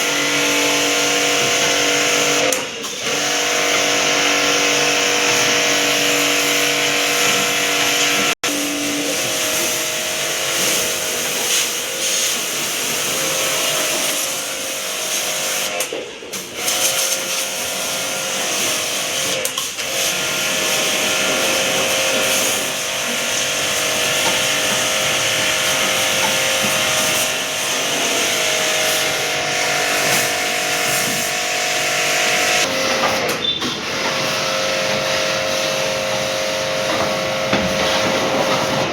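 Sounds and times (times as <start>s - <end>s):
cleaning machine motor hum: 0.0s - 15.8s, 16.4s - 32.8s, 33.8s - 38.9s.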